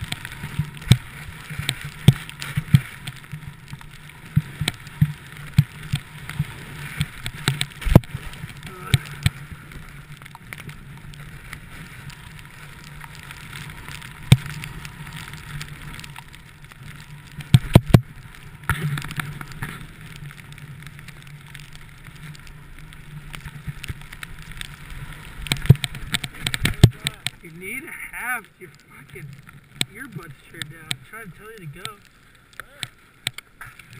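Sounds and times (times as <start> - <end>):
skis scraping over snow: 0.0 - 33.9.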